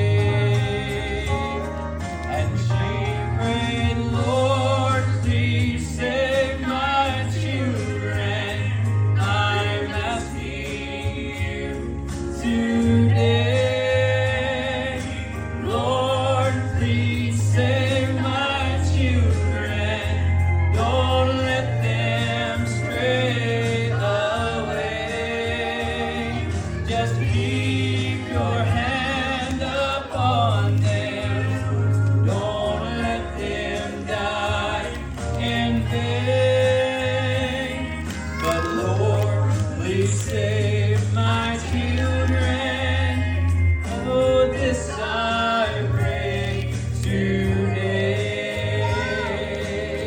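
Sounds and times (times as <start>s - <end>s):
gospel accompaniment with bass: 0.0s - 50.0s
person singing with vibrato: 0.0s - 50.0s.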